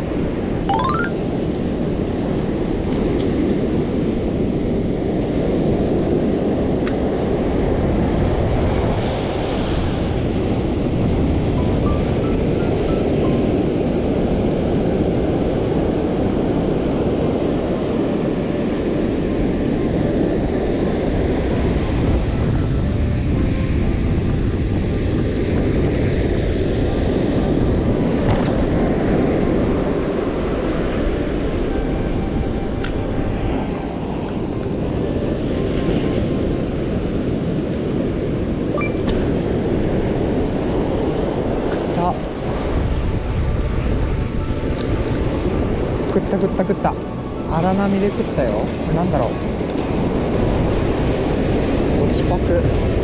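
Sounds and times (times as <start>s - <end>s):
heavy surf: 0.0s - 53.0s
wind buffeting microphone: 1.5s - 53.0s.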